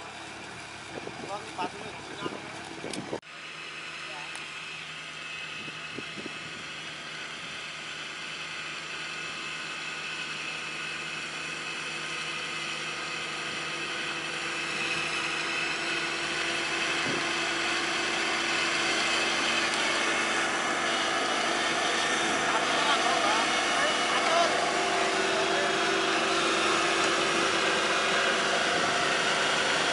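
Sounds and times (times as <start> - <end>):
combine harvester running: 0.0 - 29.9.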